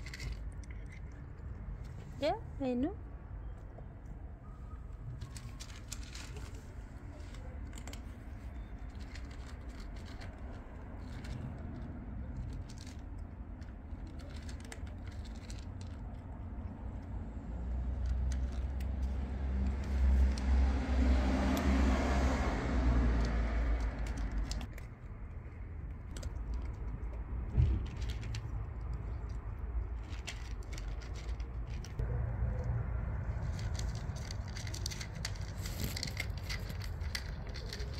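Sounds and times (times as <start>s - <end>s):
cat crunching dry kibble: 0.0s - 2.2s, 5.1s - 37.9s
passing vehicle rumble: 4.1s - 37.9s.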